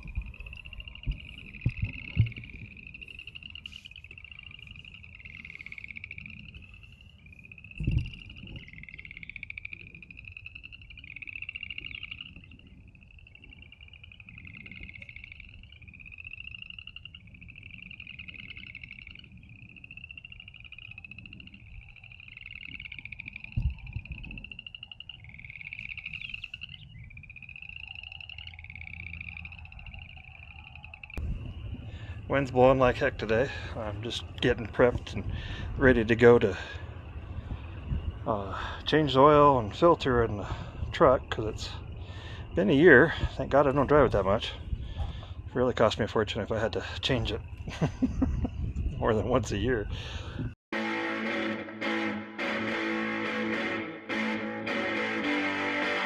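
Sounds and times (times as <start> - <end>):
frogs trilling: 0.0 - 50.5.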